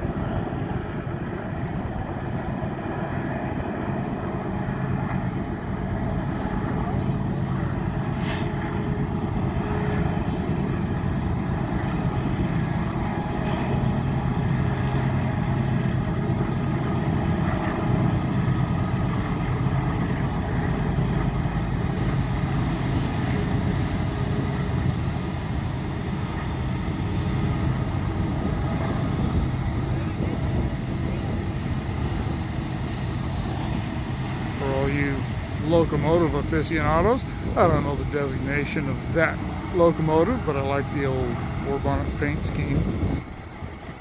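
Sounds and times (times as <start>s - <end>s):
low diesel drone: 0.0s - 44.0s
rumble of moving train: 0.0s - 44.0s.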